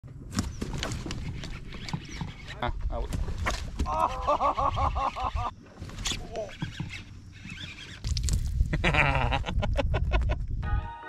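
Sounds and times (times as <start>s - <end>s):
wind rumble on microphone: 0.1s - 10.9s.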